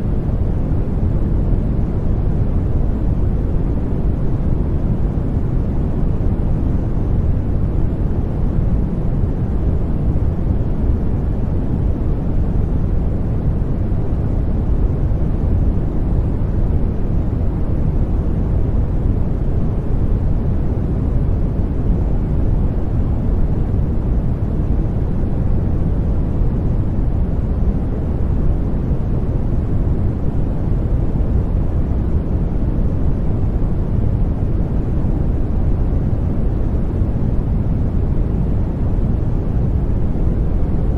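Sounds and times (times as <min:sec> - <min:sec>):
low white noise rumble: 0:00.0 - 0:40.9.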